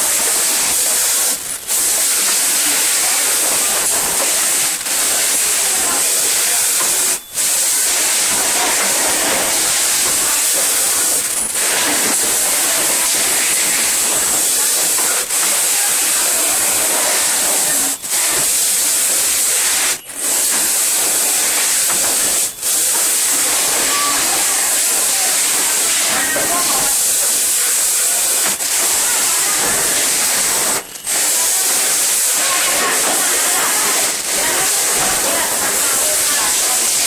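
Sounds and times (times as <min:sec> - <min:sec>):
printing machines hissing: 0:00.0 - 0:37.0.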